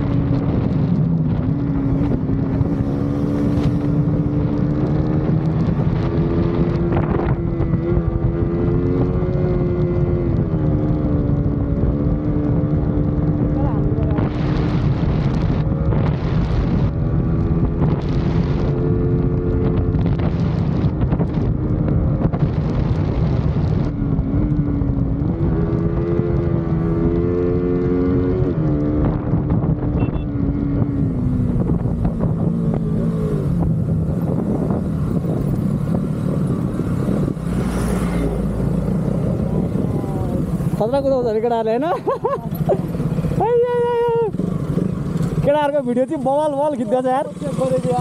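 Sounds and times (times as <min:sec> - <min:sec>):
motorcycle engine running: 0:00.0 - 0:48.0
wind rushing over microphone: 0:00.0 - 0:48.0.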